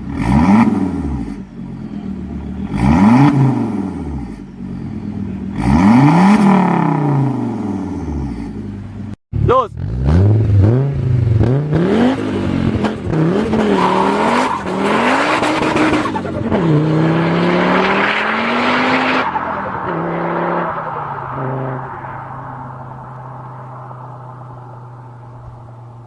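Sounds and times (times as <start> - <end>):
car engine accelerating hard: 0.0 - 8.9, 9.8 - 26.0.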